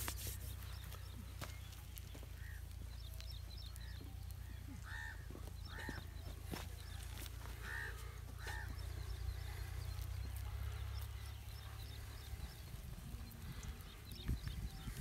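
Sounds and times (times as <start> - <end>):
bird calling: 0.0 - 15.0
small birds chirping: 0.0 - 15.0
steady low hum: 0.0 - 15.0.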